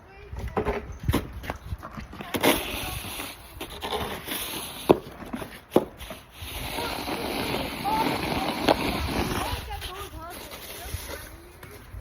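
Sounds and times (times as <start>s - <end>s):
snow shovel scraping pavement: 0.7s - 11.9s.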